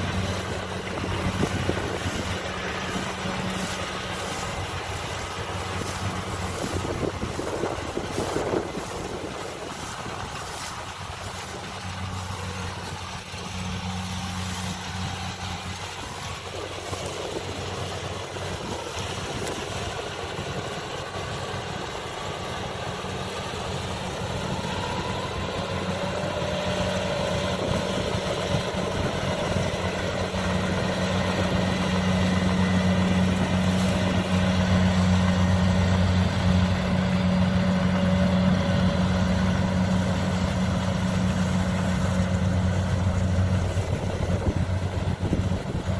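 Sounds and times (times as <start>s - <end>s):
combine harvester diesel engine: 0.0s - 45.9s.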